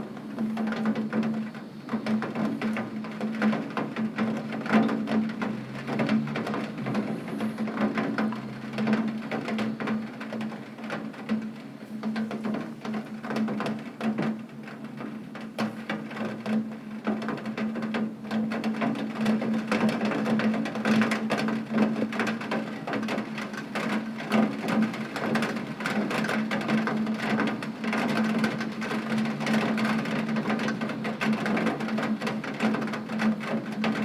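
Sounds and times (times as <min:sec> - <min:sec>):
heavy rain on window glass: 0:00.0 - 0:34.0.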